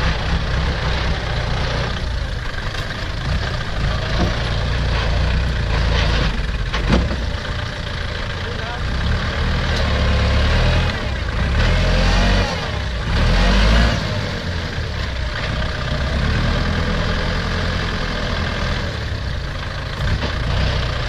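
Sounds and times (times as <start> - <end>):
diesel engines revving: 0.0 - 21.0.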